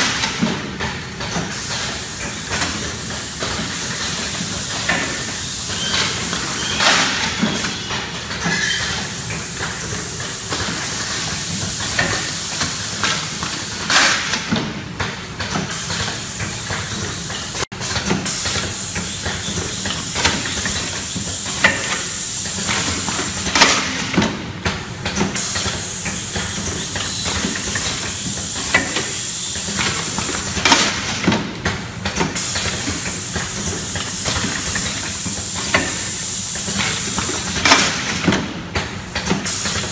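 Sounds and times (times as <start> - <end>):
machine clacks and knocks: 0.0 - 39.9.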